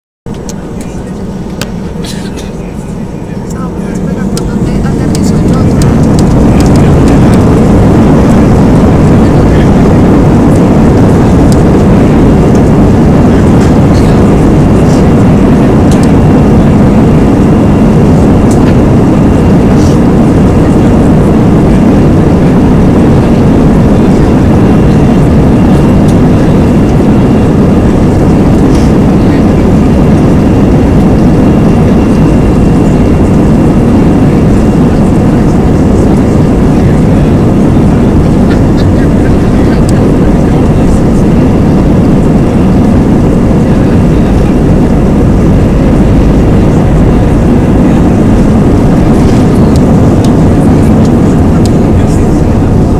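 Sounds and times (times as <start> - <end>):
faint high whine: 0.3 - 52.9
jet engines rumbling: 0.3 - 52.9.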